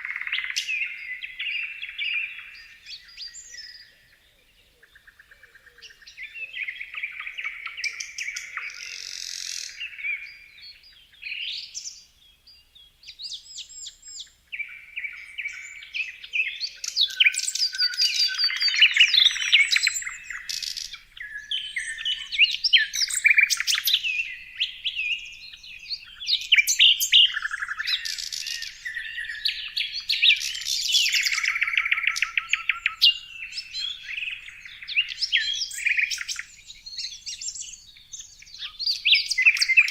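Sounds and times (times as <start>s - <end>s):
songbirds singing and trilling: 0.0s - 39.9s.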